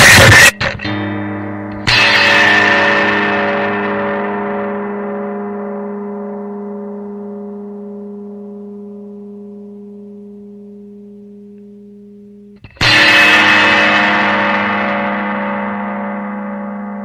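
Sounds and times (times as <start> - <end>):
distorted electric guitar chord ringing: 0.0 - 17.0.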